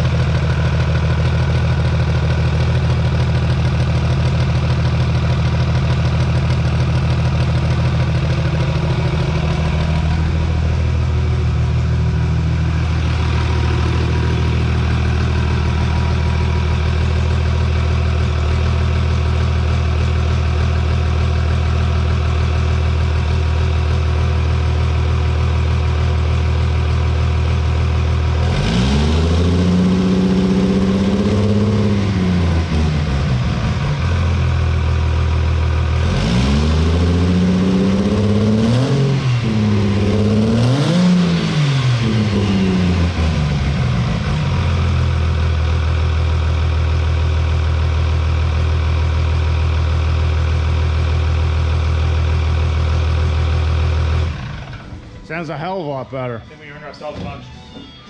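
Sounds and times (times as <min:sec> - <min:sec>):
diesel engine revving: 0:00.0 - 0:56.5
diesel truck engine idling: 0:00.0 - 0:58.0.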